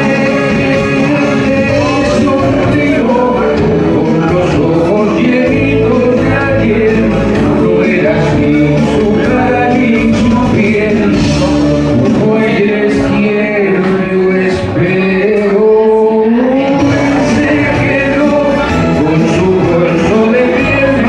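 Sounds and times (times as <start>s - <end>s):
backing music: 0.0s - 21.0s
man singing into microphone: 0.0s - 21.0s.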